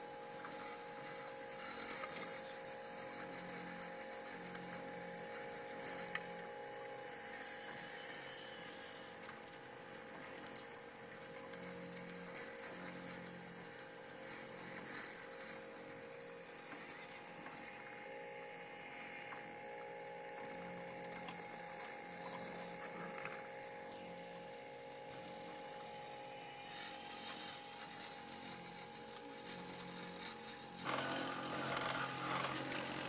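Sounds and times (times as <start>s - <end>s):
small electric motors whining: 0.0s - 33.0s
sand and grit ticking: 0.3s - 33.0s.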